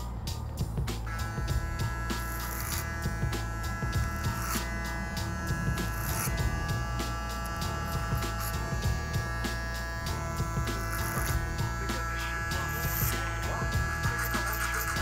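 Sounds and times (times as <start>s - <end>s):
background music: 0.0s - 15.0s
electric hair clipper buzzing: 0.9s - 15.0s.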